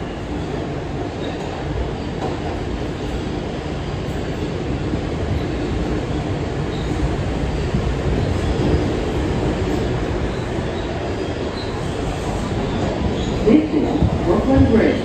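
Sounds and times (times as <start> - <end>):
subway car wheels rumbling: 0.0 - 15.0.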